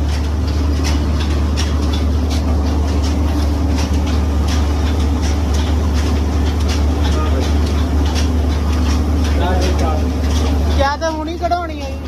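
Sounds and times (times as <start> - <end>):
mill machinery humming: 0.0 - 12.0.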